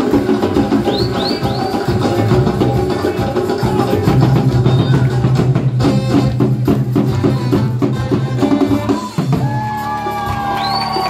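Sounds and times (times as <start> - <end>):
fast drum rhythm: 0.0 - 11.0.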